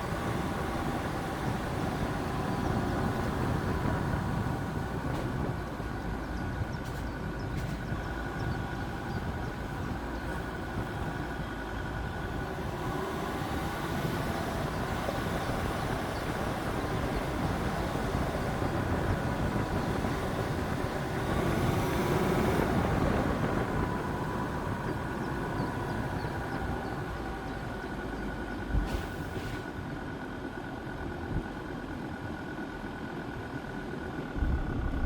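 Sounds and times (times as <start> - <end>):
diesel engine rumble while driving: 0.0 - 35.0.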